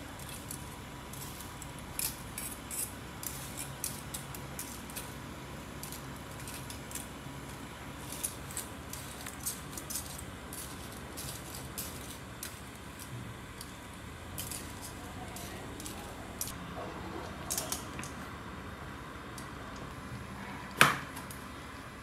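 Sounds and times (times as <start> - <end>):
gas burner noise: 0.0 - 22.0.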